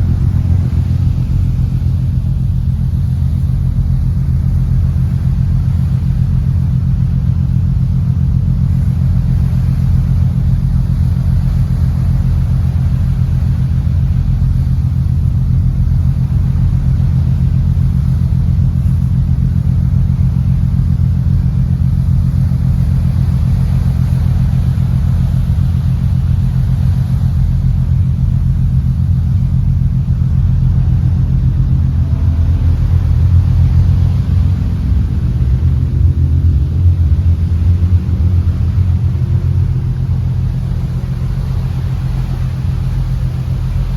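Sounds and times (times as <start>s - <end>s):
engine droning: 0.0s - 43.9s.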